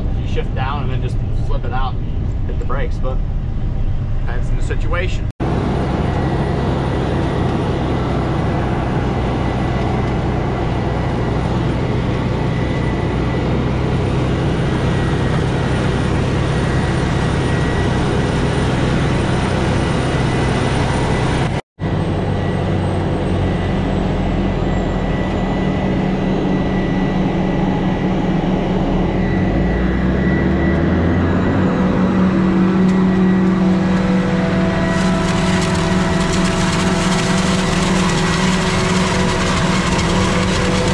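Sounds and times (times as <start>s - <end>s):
truck engine running: 0.0s - 40.9s
forage harvester running: 5.4s - 40.9s.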